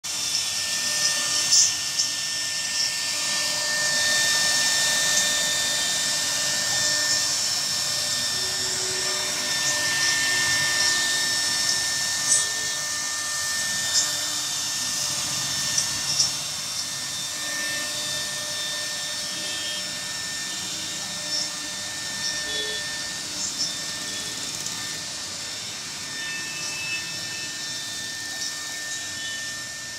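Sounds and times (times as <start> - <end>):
router spindle whine: 0.0 - 29.9.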